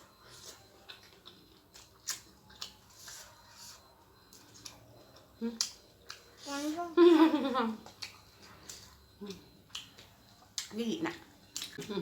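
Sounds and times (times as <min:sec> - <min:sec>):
person chewing crunchy food: 0:00.0 - 0:06.5, 0:07.8 - 0:12.0.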